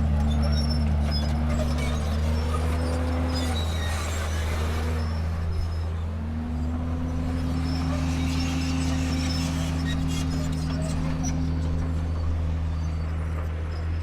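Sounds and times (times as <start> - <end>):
bulldozer diesel engine under load: 0.0 - 14.0.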